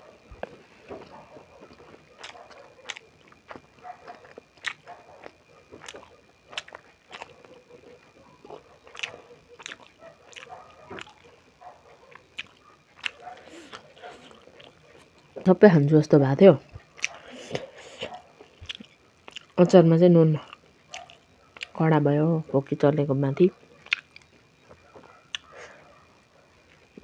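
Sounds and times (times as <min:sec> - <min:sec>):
chewing with wet mouth smacks: 0:00.3 - 0:15.6, 0:16.7 - 0:19.6, 0:20.4 - 0:21.8, 0:23.7 - 0:25.9.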